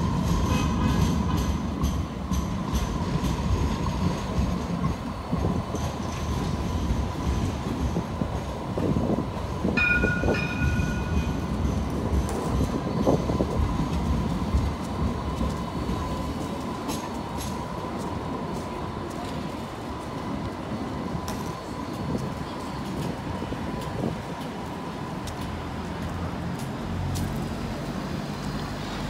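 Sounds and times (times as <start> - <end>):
tram wheels and drive rumbling: 0.0 - 29.0.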